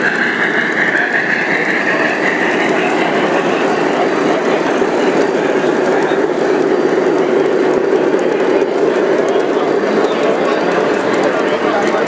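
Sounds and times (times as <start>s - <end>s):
model train wheels rumbling on rail: 0.0s - 12.0s.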